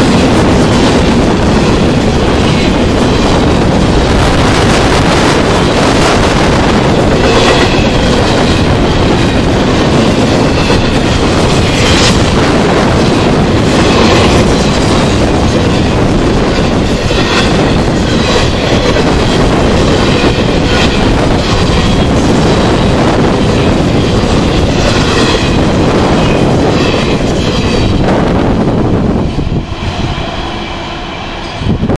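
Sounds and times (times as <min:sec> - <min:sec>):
freight train rumbling: 0:00.0 - 0:32.0.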